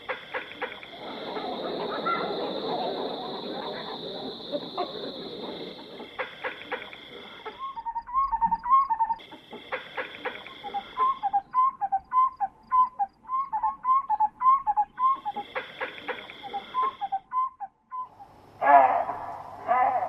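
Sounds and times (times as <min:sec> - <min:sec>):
animal call notes: 0:00.0 - 0:20.0.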